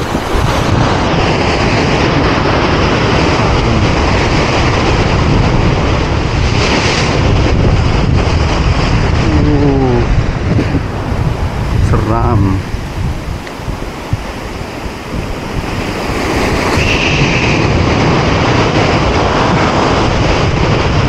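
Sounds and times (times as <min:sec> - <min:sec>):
surf breaking on rocks: 0:00.0 - 0:21.0
wind on microphone: 0:00.0 - 0:21.0.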